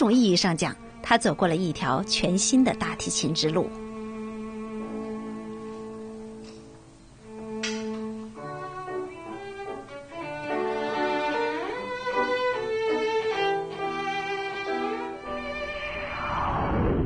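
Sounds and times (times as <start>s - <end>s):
bowed cello melody: 0.0s - 16.2s.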